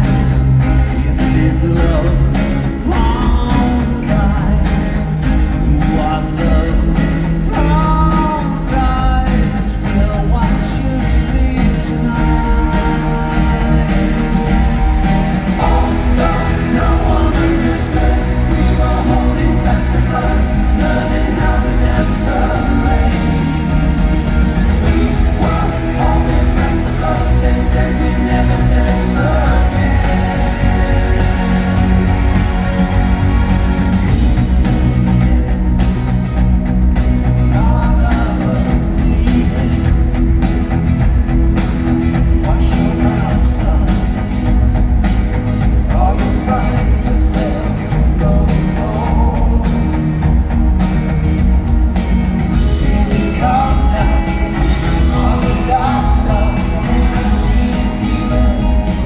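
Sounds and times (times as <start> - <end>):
lead and harmony vocals: 0.0 - 59.0
live pop-rock band playing: 0.0 - 59.0.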